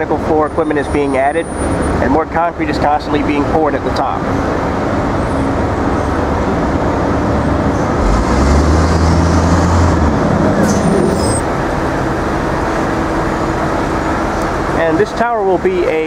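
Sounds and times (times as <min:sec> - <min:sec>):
city street traffic: 0:00.0 - 0:16.0
heavy vehicle engine drone: 0:00.0 - 0:16.0.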